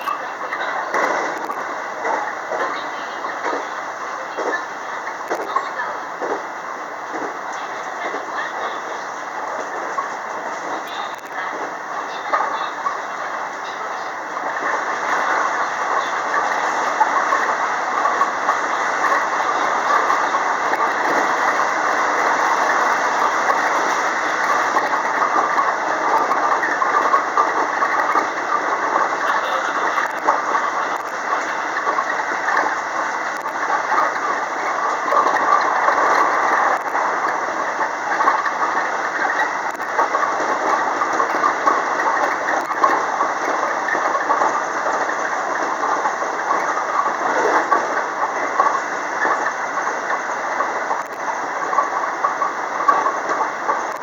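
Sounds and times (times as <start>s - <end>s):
faint track clicks: 0.0s - 54.0s
train wheels rolling on rails: 0.0s - 54.0s.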